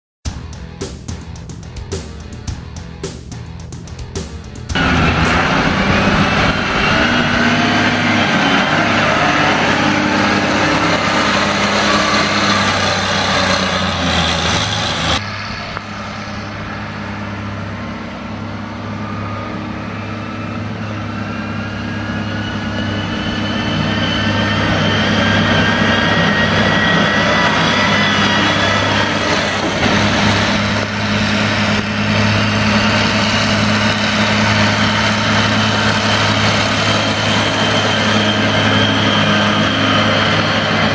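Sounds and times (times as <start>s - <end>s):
engine whine rising in pitch: 1.4s - 40.9s
diesel engine running loudly: 2.3s - 40.9s.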